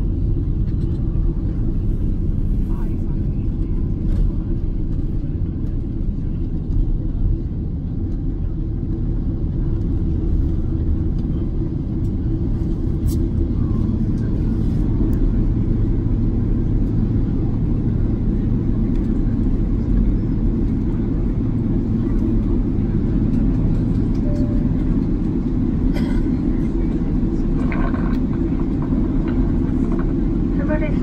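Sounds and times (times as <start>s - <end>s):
jet engine rumble in cabin: 0.0s - 31.0s.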